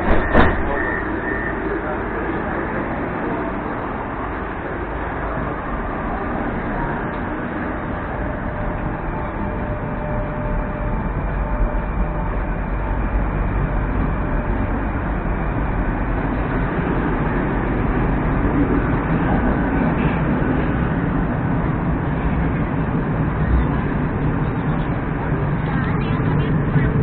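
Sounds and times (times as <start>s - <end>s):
train rumble inside car: 0.0s - 27.0s.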